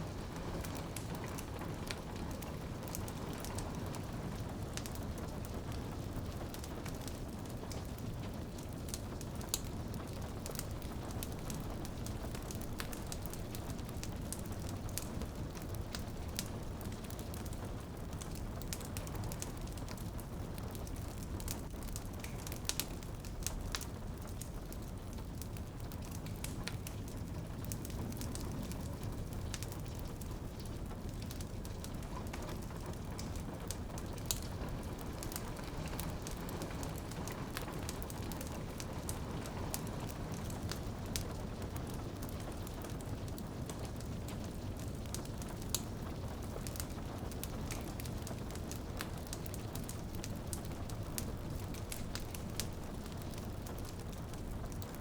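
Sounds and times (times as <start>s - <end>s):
rain on a window: 0.0s - 55.0s
wood fire crackling and popping: 0.0s - 55.0s.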